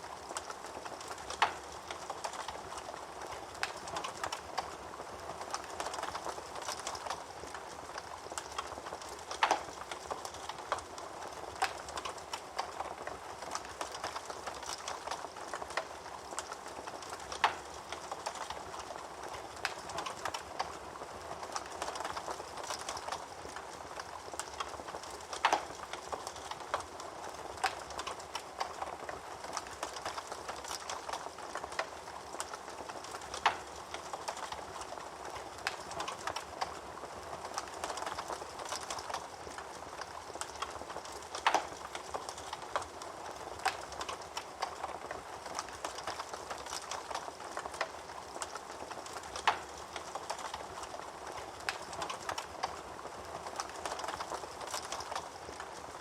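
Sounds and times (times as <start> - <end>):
wood fire crackling: 0.0 - 56.0
fire popping: 0.1 - 55.9.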